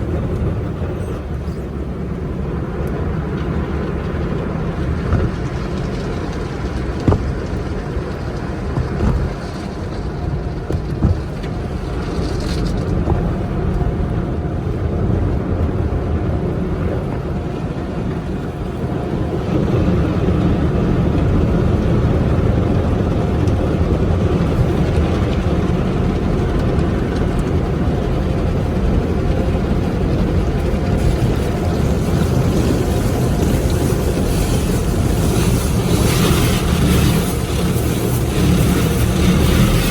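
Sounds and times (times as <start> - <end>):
car wash water spray and machinery: 0.0 - 39.9.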